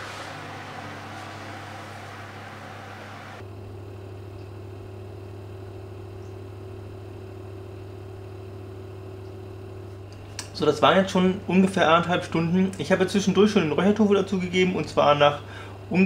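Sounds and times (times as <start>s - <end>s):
electric oven humming: 0.0s - 16.0s.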